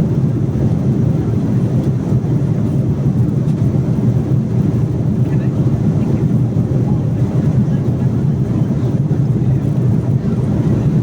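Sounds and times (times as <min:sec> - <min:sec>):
airliner cabin roar: 0:00.0 - 0:11.0.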